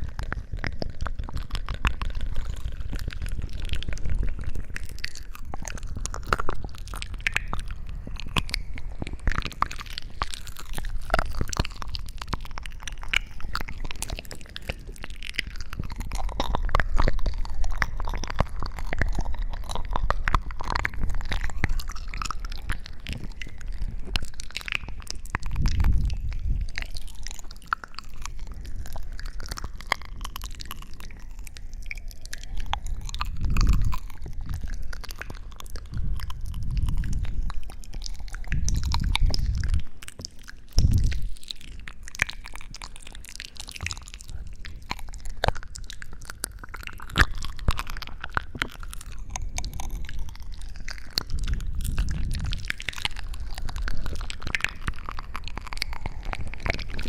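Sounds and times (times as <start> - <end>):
fine crackling and clicking: 0.0 - 57.0.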